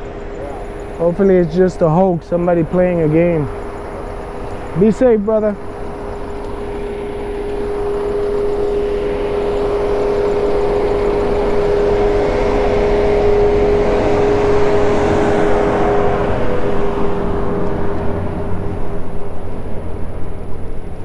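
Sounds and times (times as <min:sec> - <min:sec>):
constant electric motor hum: 0:00.0 - 0:21.0
wind and riding noise: 0:00.0 - 0:21.0.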